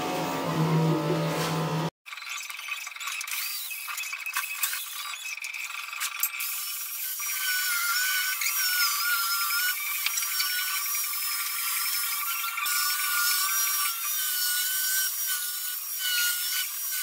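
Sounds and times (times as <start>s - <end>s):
angle grinder sanding wood: 3.4s - 17.0s.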